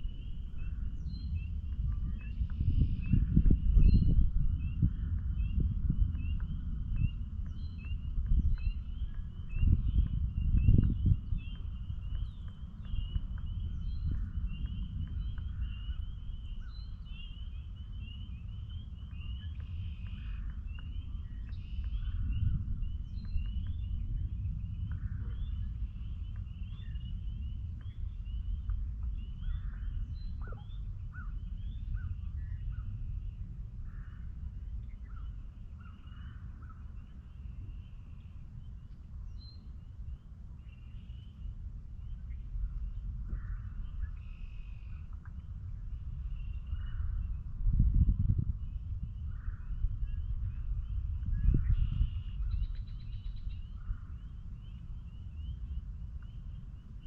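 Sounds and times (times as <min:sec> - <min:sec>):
low rumble: 0:00.0 - 0:57.0
frogs peeping chorus: 0:04.6 - 0:23.6, 0:24.6 - 0:47.4, 0:48.6 - 0:57.0.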